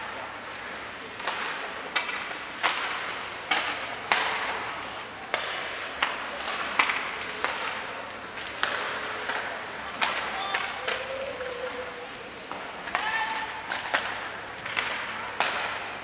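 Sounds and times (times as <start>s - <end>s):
hockey sticks striking pucks: 0.0s - 16.0s.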